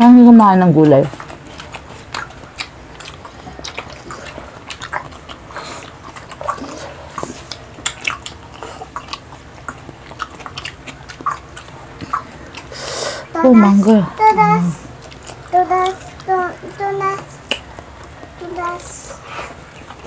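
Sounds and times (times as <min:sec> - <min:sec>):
people chewing and crunching food: 0:00.0 - 0:20.0.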